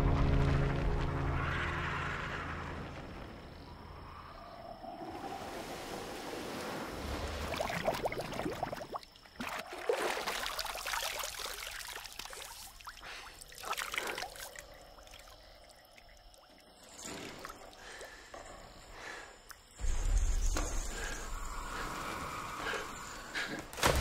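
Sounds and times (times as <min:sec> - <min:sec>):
water splashing and sloshing: 0:04.5 - 0:24.0.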